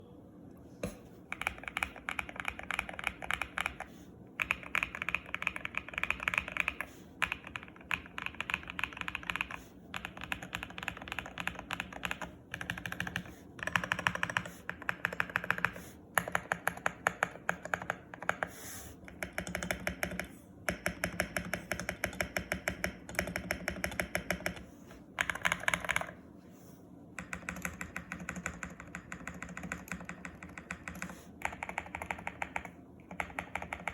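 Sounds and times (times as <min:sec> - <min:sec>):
mechanical keyboard typing: 0:01.3 - 0:18.5, 0:19.1 - 0:24.6, 0:25.2 - 0:26.2, 0:27.2 - 0:33.9.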